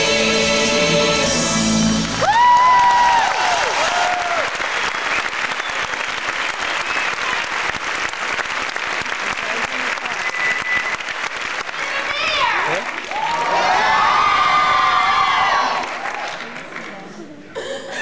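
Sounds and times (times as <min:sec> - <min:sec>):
audience applauding: 0:01.9 - 0:17.4.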